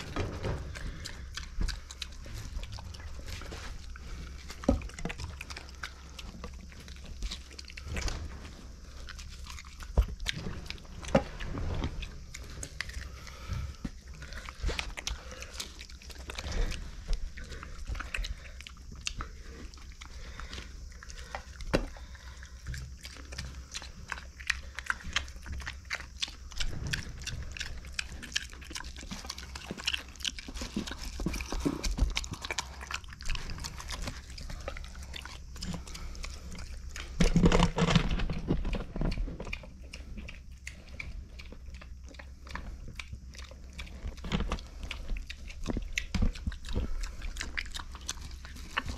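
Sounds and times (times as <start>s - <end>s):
pig chewing corn: 0.0s - 48.9s.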